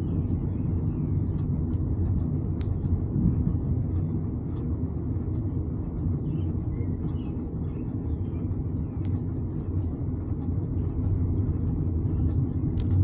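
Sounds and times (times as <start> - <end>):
faint ticks: 0.0 - 13.0
wind buffeting microphone: 0.0 - 13.0.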